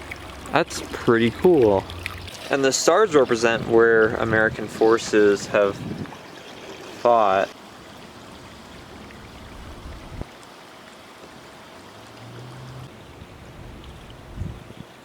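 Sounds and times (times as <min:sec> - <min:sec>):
fountain water running: 0:00.0 - 0:15.0.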